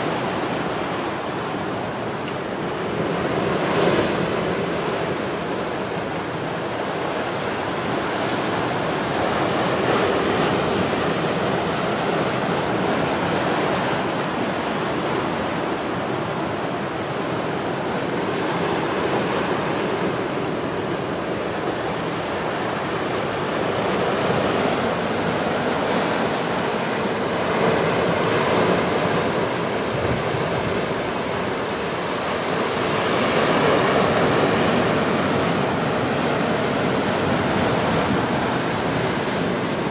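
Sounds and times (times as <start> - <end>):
ocean surf breaking on rocks: 0.0 - 39.9.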